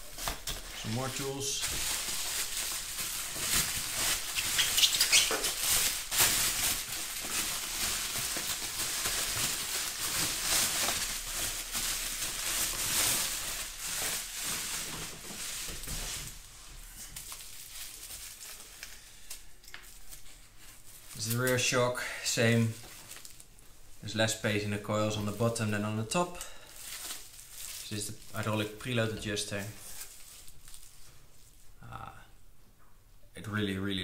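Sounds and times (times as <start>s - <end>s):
bubble wrap crinkling: 0.0s - 31.8s.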